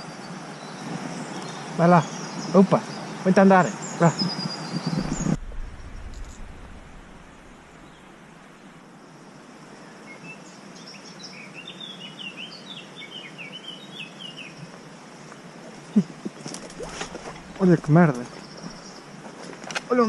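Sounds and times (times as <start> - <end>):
background hiss: 0.0 - 20.0
songbird chirping: 0.0 - 20.0.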